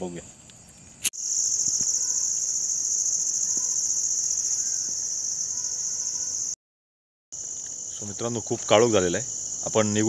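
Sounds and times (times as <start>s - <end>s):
crickets trilling: 0.0s - 6.6s, 7.4s - 10.0s.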